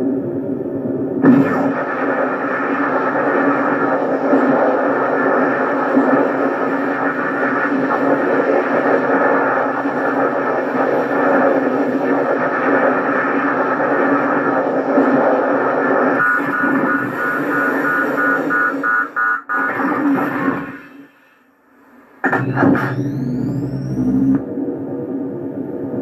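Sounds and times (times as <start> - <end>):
electronic rumbling drone: 0.0 - 21.1, 21.8 - 26.0.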